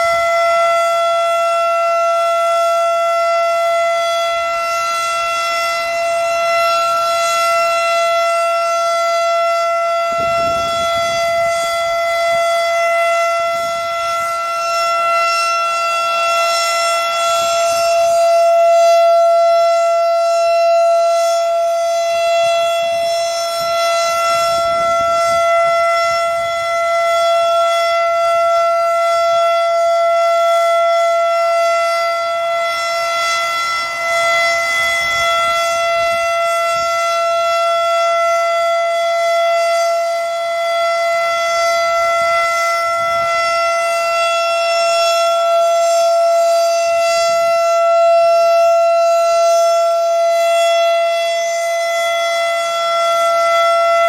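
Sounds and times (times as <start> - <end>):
warning siren steady tone: 0.0 - 54.0.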